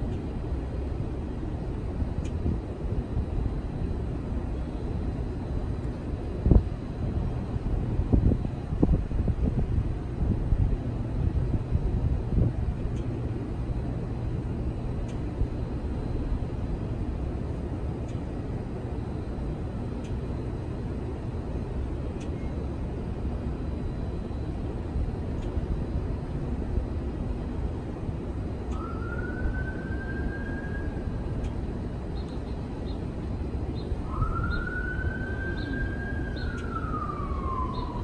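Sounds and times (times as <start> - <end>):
city traffic rumble: 0.0 - 38.0
distant siren: 0.0 - 38.0.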